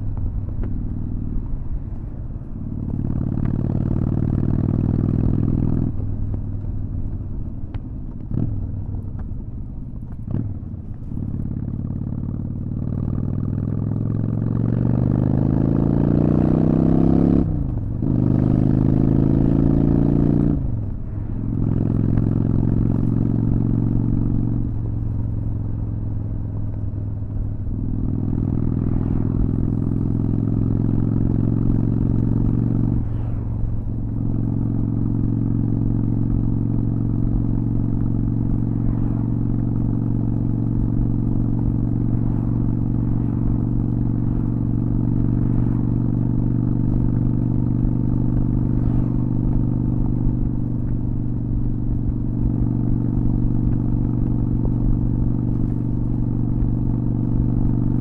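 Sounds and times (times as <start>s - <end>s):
motorcycle engine revving: 10.2s - 25.8s, 26.7s - 58.0s.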